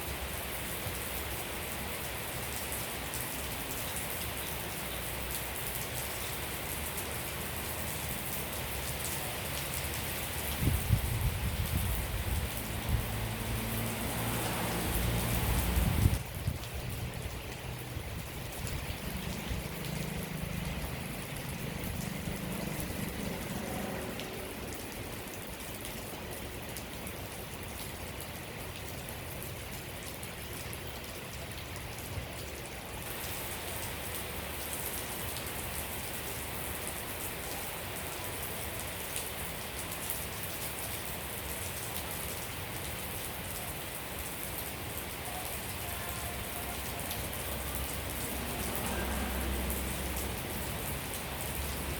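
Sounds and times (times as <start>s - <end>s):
rain pattering on surfaces: 0.0s - 51.9s.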